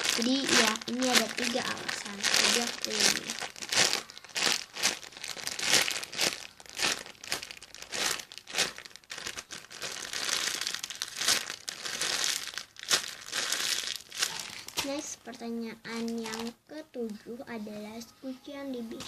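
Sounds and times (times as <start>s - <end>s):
plastic packaging crinkling: 0.0s - 15.1s, 15.9s - 16.6s.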